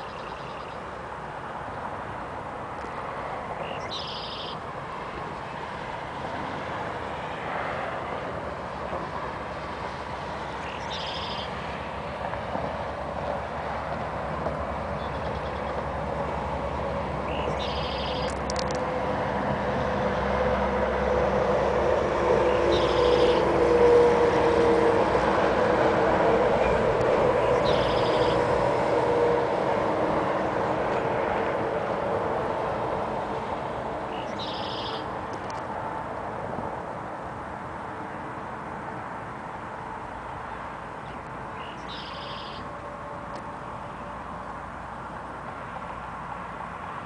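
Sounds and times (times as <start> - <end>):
steady traffic hum: 0.0 - 47.0
truck passing: 0.0 - 47.0.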